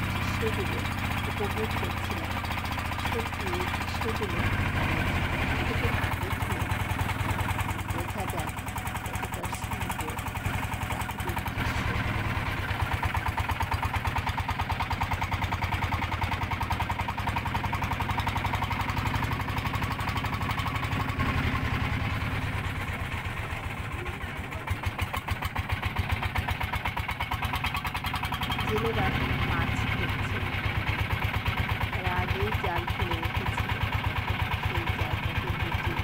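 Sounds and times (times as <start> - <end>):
boat engine puttering: 0.0 - 36.0.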